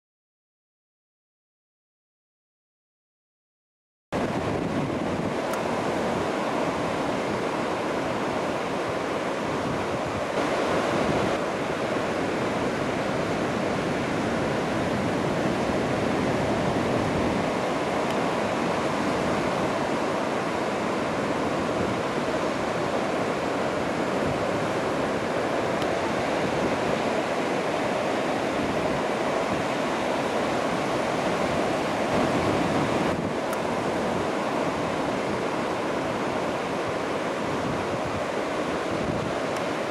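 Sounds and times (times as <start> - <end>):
ocean surf breaking: 4.2 - 39.9
wind noise on microphone: 4.2 - 39.9.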